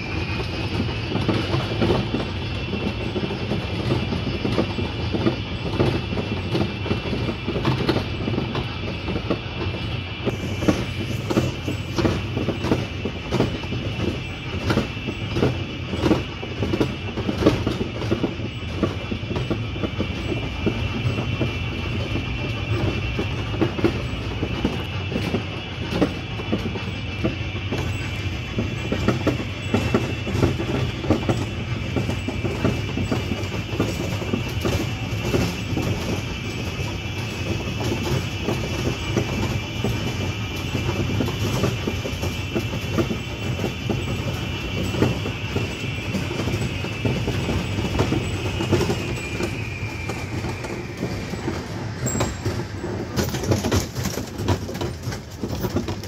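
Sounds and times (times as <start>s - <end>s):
train wheels clicking on track: 0.0s - 56.0s.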